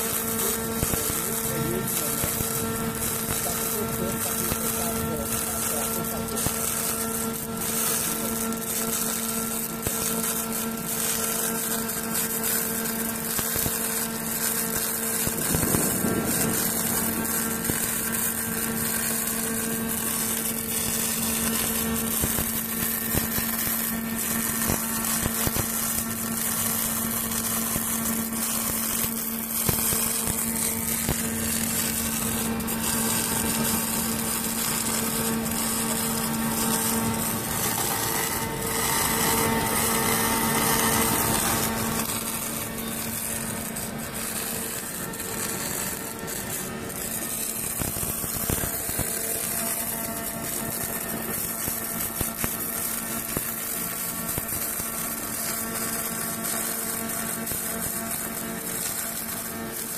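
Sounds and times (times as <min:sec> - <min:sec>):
welding arc hiss and crackle: 0:00.0 - 0:59.9.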